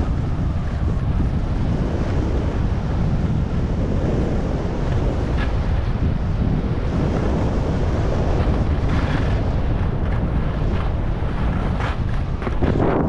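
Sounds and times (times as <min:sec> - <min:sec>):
skis scraping over snow: 0:00.0 - 0:13.0
wind buffeting microphone: 0:00.0 - 0:13.0.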